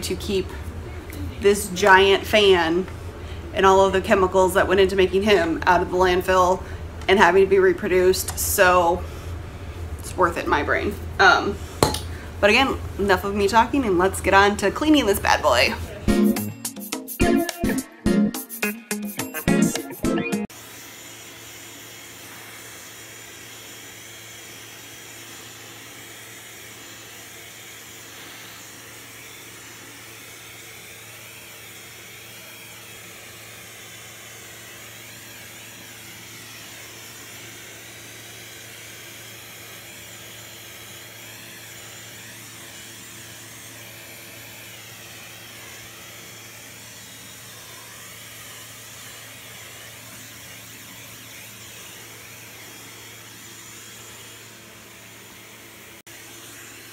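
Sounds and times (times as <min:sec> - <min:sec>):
vacuum cleaner running: 0:00.0 - 0:16.6, 0:20.0 - 0:56.9.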